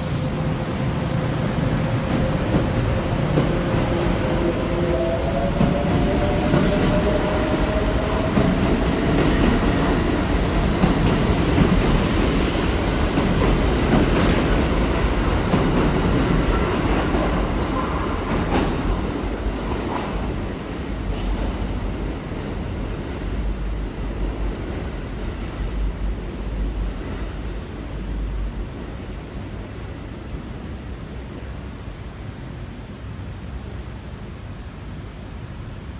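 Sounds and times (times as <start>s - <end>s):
wheels rumbling on rail: 0.0s - 31.8s.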